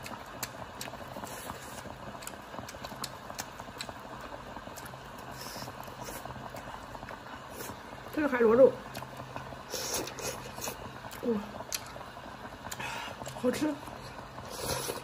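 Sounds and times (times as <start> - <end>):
broth bubbling: 0.0 - 15.0.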